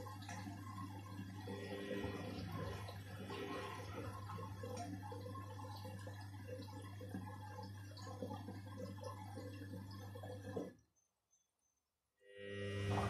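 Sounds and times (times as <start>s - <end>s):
laundry sloshing in washing machine: 0.0s - 10.9s, 12.8s - 13.0s
washing machine motor hum: 0.0s - 11.3s, 12.2s - 13.0s.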